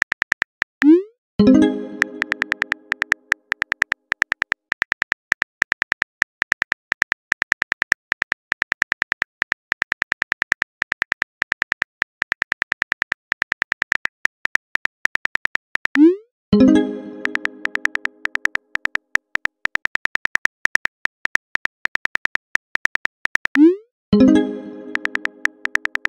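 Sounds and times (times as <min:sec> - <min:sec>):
phone keyboard typing clicks: 0:00.0 - 0:16.1, 0:17.1 - 0:26.0.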